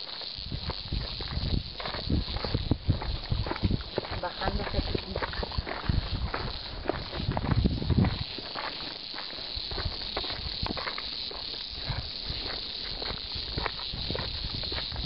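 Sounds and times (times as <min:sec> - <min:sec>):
footsteps on dirt trail: 0:00.0 - 0:15.0
steady high hiss: 0:00.0 - 0:15.0.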